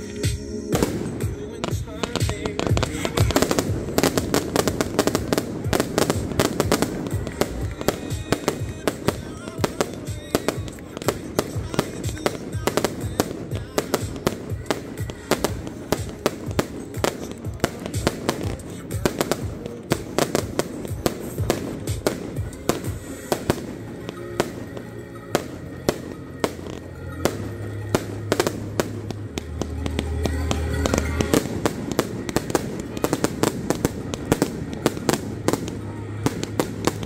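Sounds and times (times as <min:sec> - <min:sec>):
fireworks popping and banging: 0:00.0 - 0:37.0
low bass notes: 0:00.0 - 0:37.0
music playing: 0:00.0 - 0:37.0.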